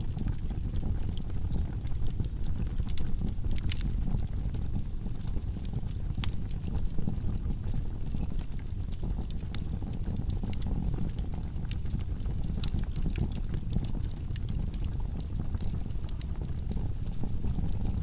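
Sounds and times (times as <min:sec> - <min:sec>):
fire rumbling: 0:00.0 - 0:18.0
wood crackling and popping: 0:00.0 - 0:18.0.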